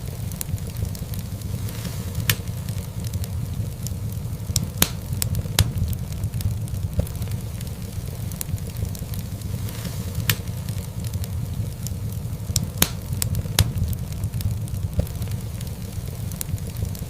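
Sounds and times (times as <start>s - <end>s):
fire crackles and pops: 0.0s - 17.0s
fire flames rumbling: 0.0s - 17.0s.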